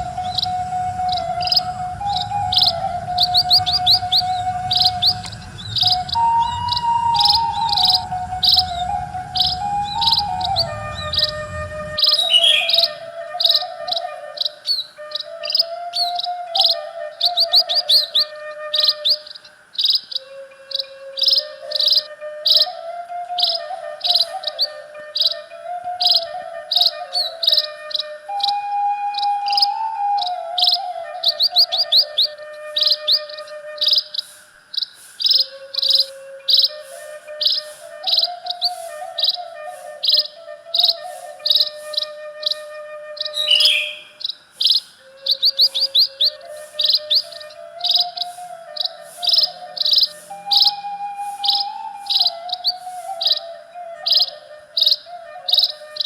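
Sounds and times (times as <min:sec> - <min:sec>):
bamboo flute melody: 0:00.0 - 0:56.0
birds chirping: 0:00.0 - 0:56.0
insects trilling: 0:00.0 - 0:56.0.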